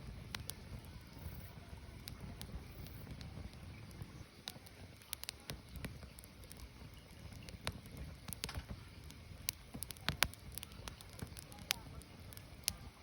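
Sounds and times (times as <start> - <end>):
firewood crackling and popping: 0.0 - 13.0
low rumble of fire: 0.0 - 13.0.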